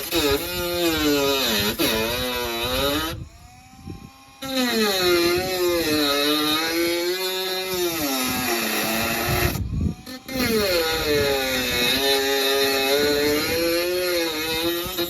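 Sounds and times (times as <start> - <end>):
rotary tool cutting sheet steel: 0.0 - 15.0.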